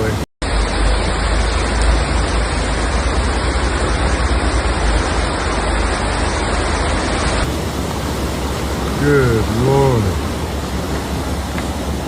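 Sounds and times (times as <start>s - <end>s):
floodwater rushing: 0.0s - 12.0s
low rumble: 0.0s - 12.0s.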